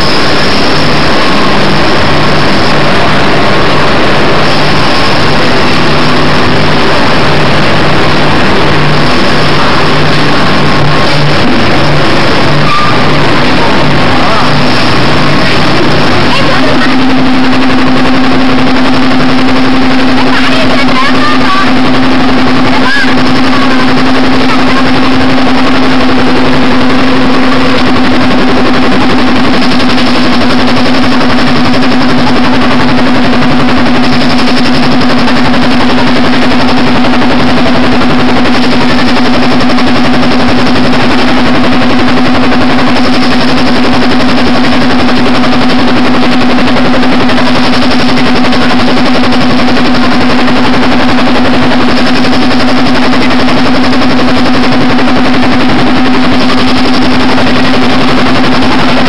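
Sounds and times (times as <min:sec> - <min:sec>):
stamping machine running: 0:00.0 - 0:59.0.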